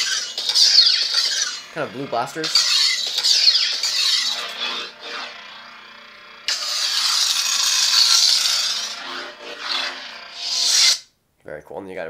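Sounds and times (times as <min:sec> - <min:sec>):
lightsaber hissing blade hum: 0:00.0 - 0:11.1.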